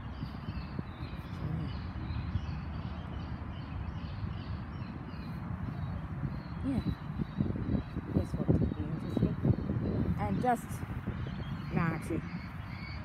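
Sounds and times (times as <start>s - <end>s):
birds chirping: 0.0s - 13.0s
wind buffeting microphone: 0.0s - 13.0s.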